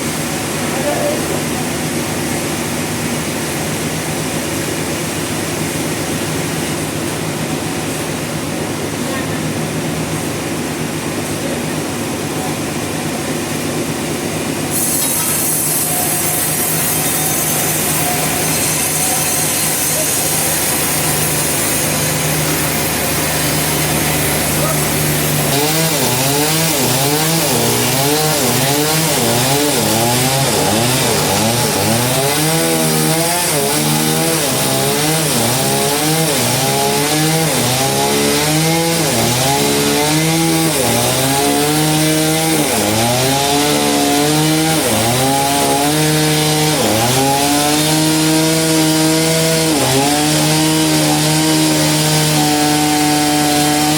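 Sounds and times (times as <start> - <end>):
power saw cutting log: 0.0 - 53.9.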